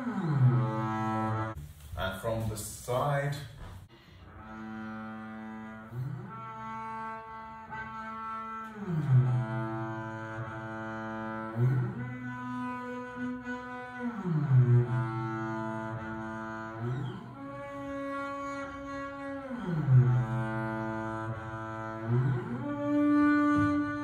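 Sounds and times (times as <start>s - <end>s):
double bass bowed: 0.0s - 1.8s, 3.9s - 24.0s.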